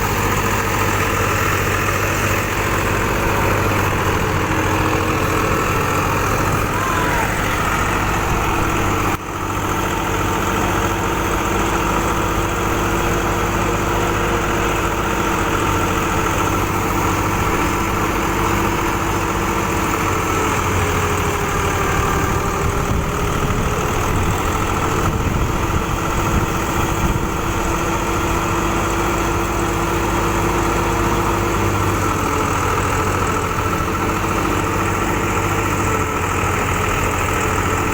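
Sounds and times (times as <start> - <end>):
threshing machine drone: 0.0 - 37.9
tractor engine running: 0.0 - 37.9.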